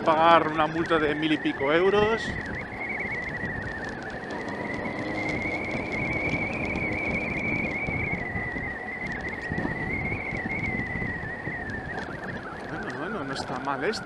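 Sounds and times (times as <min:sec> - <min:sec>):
motorcycle engine running: 0:00.0 - 0:13.8
gravel ticks: 0:00.0 - 0:14.0
high whine: 0:00.0 - 0:14.0
tyres rolling over loose stones: 0:00.0 - 0:14.0.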